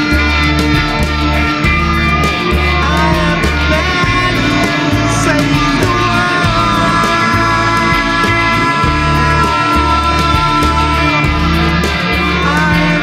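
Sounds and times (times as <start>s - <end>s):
bass line: 0.0s - 13.0s
drums: 0.0s - 13.0s
electric guitar lead: 0.0s - 13.0s.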